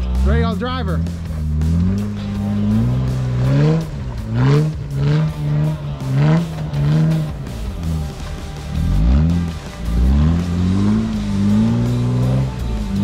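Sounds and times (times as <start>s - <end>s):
engine revving in blips: 0.0s - 13.0s.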